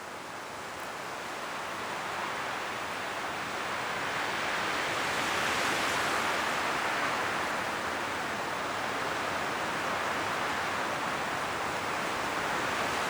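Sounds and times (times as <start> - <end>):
wind rustling leaves: 0.0 - 13.0.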